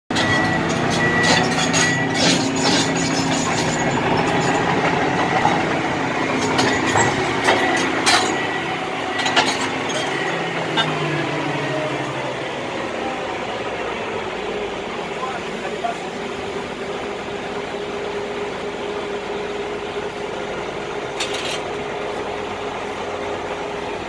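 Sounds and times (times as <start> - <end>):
engine running: 0.1 - 24.0.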